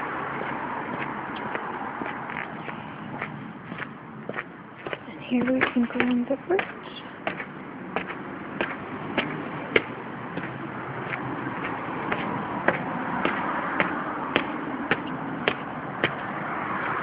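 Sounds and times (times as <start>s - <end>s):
hard-soled footsteps on concrete: 0.0s - 17.0s
road traffic hum: 0.0s - 17.0s.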